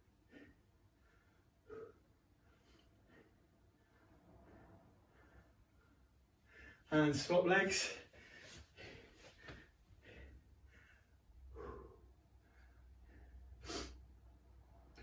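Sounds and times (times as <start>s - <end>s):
man breathing: 0.0s - 6.9s, 7.8s - 15.0s.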